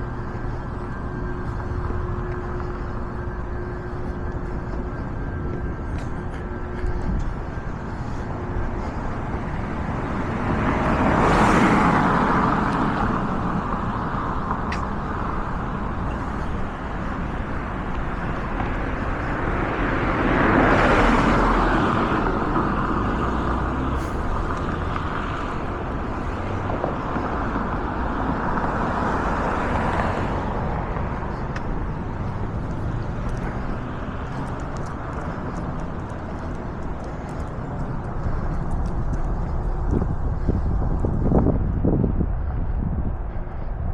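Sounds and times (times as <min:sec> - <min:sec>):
cars passing: 0:00.0 - 0:43.9
low rumble of traffic: 0:00.0 - 0:43.9.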